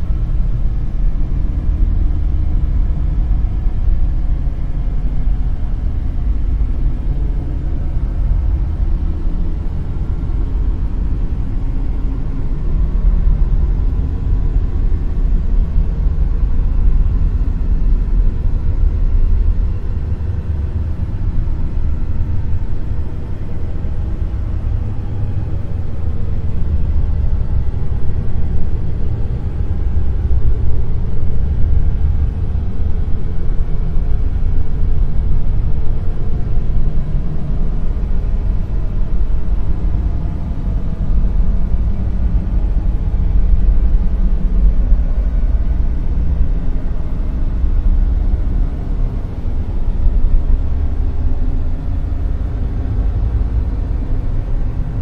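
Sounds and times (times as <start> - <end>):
deep rumbling hiss: 0.0 - 55.0.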